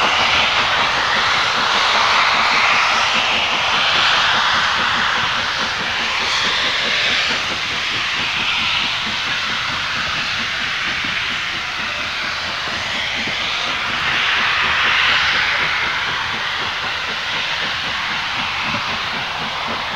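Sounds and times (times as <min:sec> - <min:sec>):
loud rushing hiss of steam: 0:00.0 - 0:19.9
steam locomotive exhaust beat: 0:00.0 - 0:19.9.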